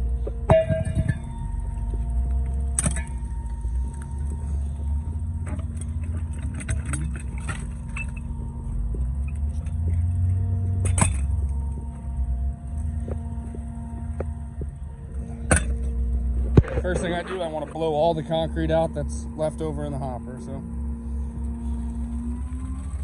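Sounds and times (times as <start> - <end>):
metallic clanks and knocks: 0.0 - 18.4
pump engine running: 0.0 - 23.0.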